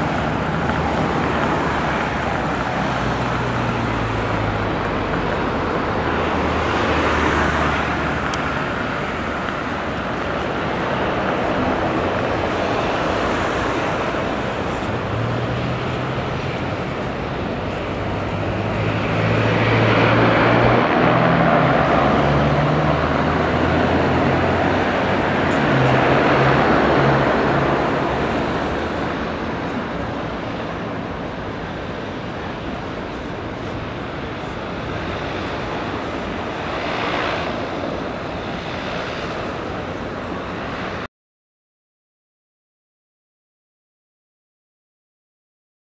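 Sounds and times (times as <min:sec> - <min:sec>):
harbour ambience rumble and hiss: 0:00.0 - 0:41.1
traffic noise: 0:00.0 - 0:41.1.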